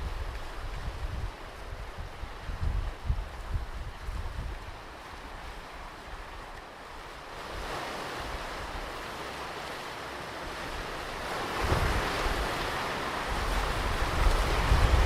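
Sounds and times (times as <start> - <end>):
wind rumble on microphone: 0.0 - 9.0, 10.4 - 15.0
ocean waves washing on beach: 0.0 - 15.0.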